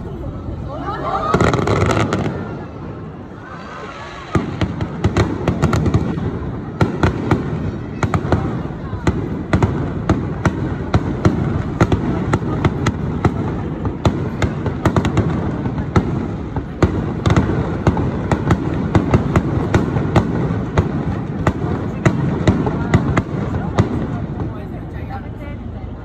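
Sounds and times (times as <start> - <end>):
fireworks bangs: 0.0 - 25.2.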